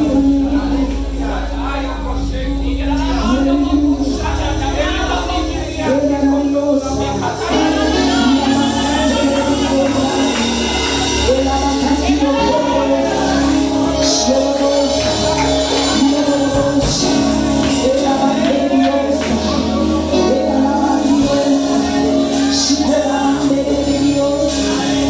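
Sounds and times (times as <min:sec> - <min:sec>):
voices singing gospel music: 0:00.0 - 0:25.0.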